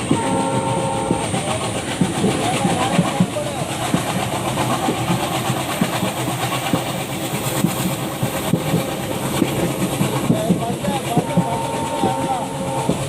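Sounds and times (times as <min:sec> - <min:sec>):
train engine and wheels rumbling: 0:00.0 - 0:13.0.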